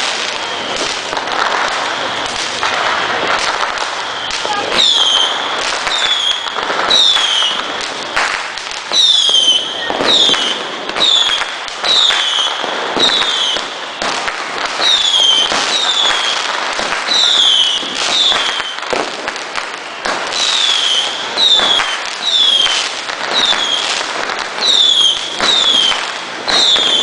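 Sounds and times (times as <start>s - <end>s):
firework whistles: 0.0s - 27.0s
fireworks crackling and popping: 0.0s - 27.0s.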